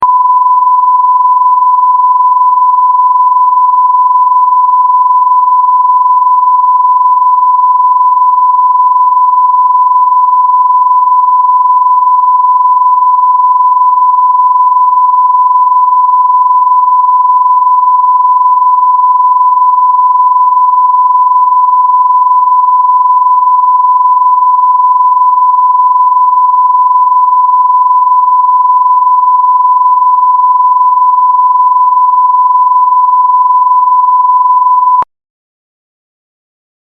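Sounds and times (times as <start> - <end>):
censor bleep tone: 0.0 - 35.1.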